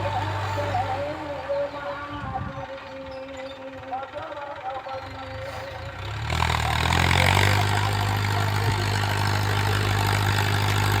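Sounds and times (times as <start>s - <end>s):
tractor diesel engine revving: 0.0s - 2.8s, 3.7s - 11.0s.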